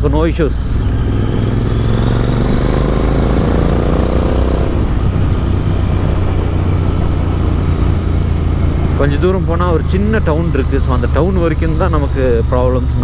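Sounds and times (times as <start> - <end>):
motorcycle engine revving and rumbling: 0.0 - 13.0.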